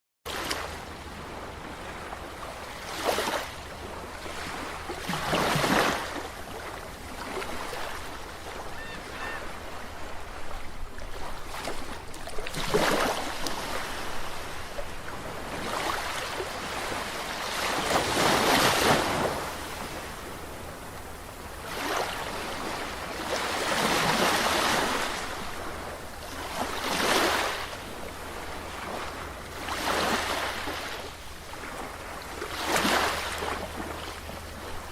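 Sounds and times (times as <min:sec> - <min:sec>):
waves breaking on shore: 0:00.3 - 0:34.9.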